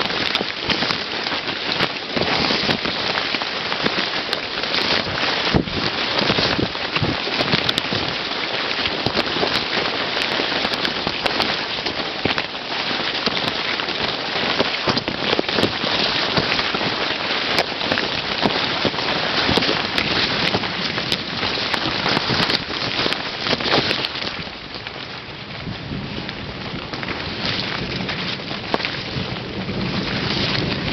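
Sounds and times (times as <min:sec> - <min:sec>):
corn leaves rustling and snapping: 0:00.0 - 0:30.9.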